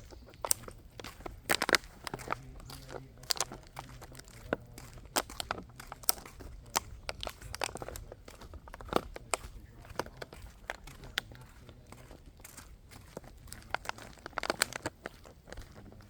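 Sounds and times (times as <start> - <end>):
crunches and crackling clicks: 0.0 - 16.0.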